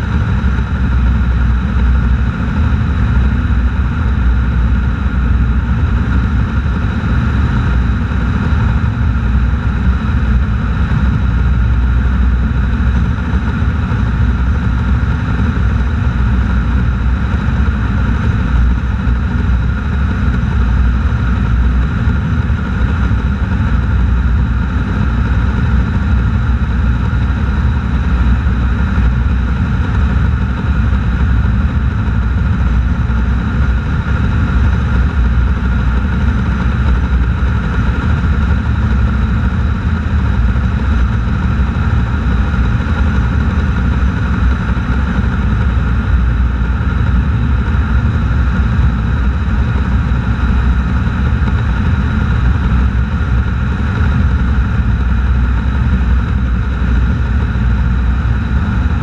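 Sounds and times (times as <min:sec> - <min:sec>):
car driving at cruising speed: 0:00.0 - 0:59.0
engine tyre and wind noise: 0:00.0 - 0:59.0.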